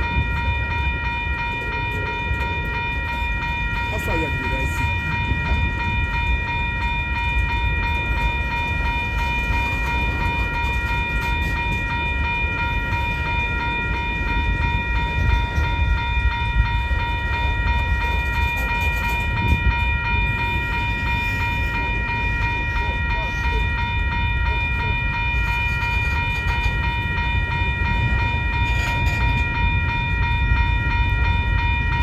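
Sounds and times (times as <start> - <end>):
train rumbling by: 0.0 - 32.0.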